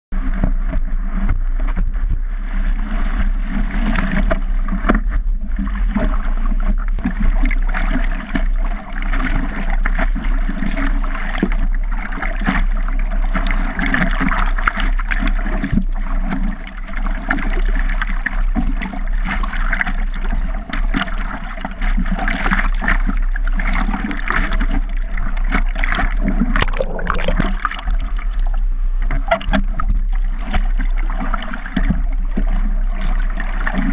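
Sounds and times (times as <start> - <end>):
sea water sloshing around surfboard: 0.2 - 33.9.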